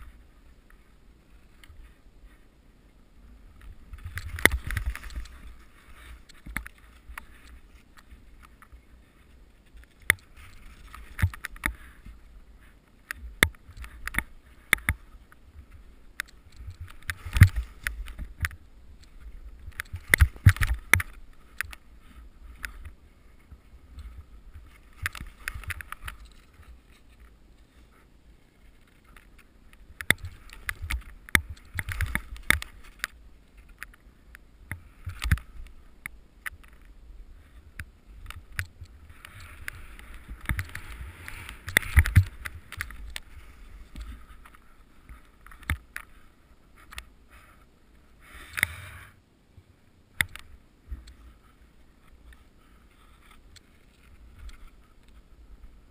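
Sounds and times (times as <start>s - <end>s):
wind rumble on camera: 0.0s - 55.9s.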